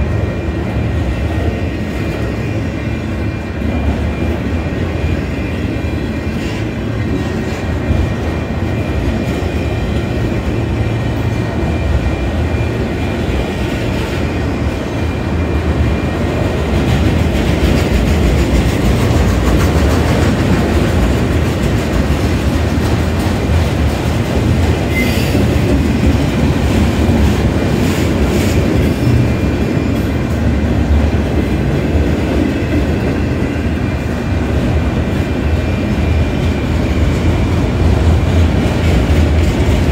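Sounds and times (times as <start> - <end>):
steel wheels rumbling on rail: 0.0 - 39.9.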